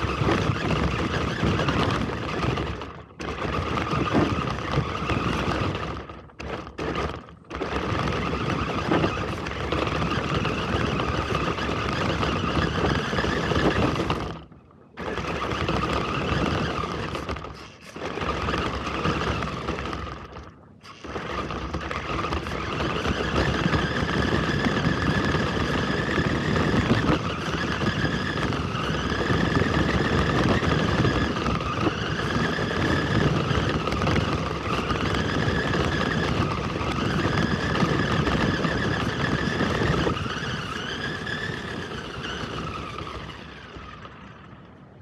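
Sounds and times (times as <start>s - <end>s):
rc car motor whine: 0.0s - 44.8s
tires rumbling on gravel: 0.0s - 45.0s.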